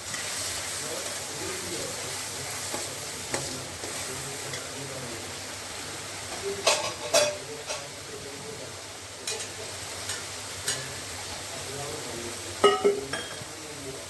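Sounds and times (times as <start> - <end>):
paste sizzling in oil: 0.0 - 14.0.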